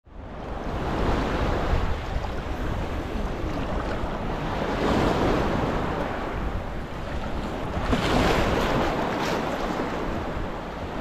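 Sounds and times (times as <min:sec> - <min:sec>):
wind rumbling on microphone: 0:00.1 - 0:11.0
small waves washing onto shore: 0:00.2 - 0:11.0.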